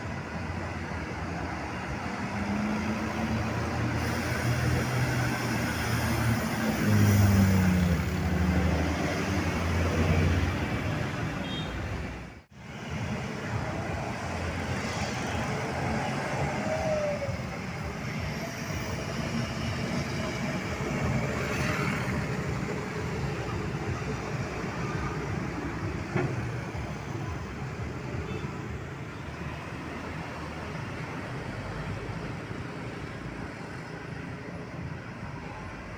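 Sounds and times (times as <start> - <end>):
passing traffic: 0.0 - 35.9.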